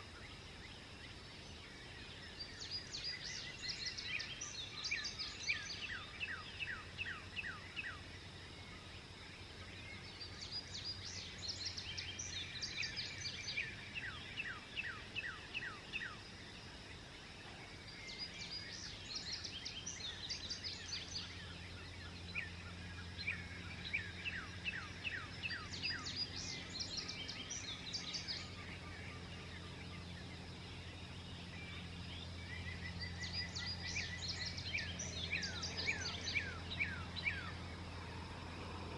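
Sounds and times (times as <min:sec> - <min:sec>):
songbirds singing: 0:00.0 - 0:38.9
steady low hum: 0:00.0 - 0:38.9.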